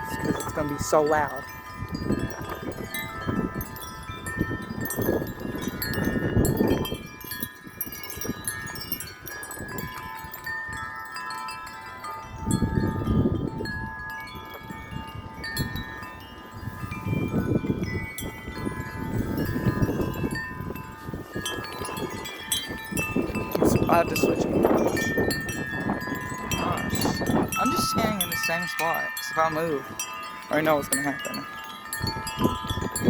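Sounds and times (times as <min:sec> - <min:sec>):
wind chimes ringing: 0:00.0 - 0:33.0
wind rumbling on microphone: 0:00.0 - 0:33.0.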